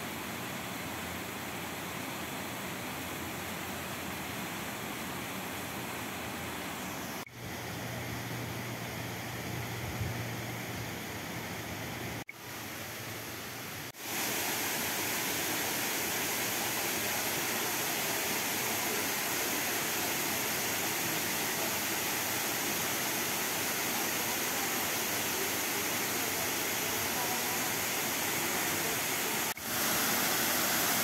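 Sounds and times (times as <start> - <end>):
waterfall rushing water: 0.0 - 7.3, 10.8 - 31.0.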